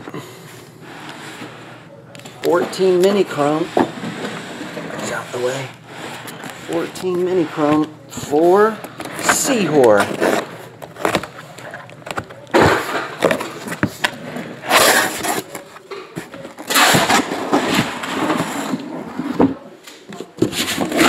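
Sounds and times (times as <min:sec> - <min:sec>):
cardboard scraping and rustling: 0:02.6 - 0:19.6.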